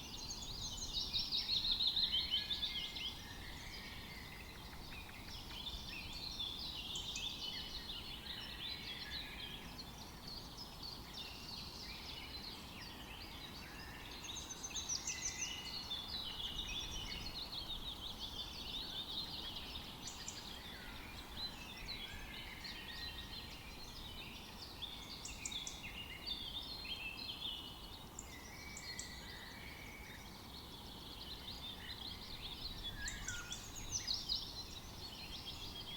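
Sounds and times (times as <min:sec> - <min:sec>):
songbirds chirping and trilling: 0:00.0 - 0:35.9.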